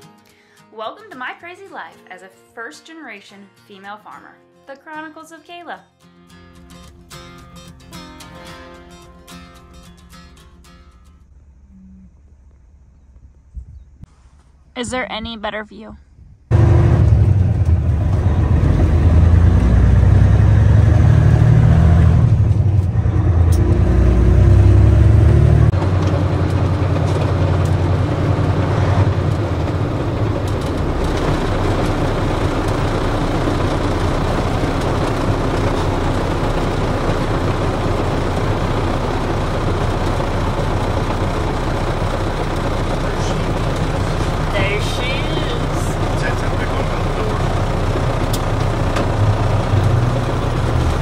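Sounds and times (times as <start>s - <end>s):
truck engine and road noise: 6.4s - 51.0s.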